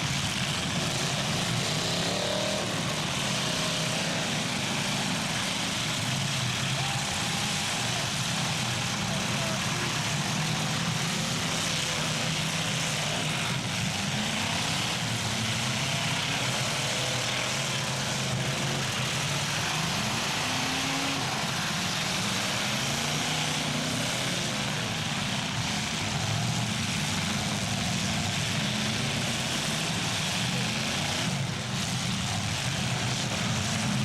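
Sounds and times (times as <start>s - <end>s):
car engines running and revving: 0.0s - 34.0s.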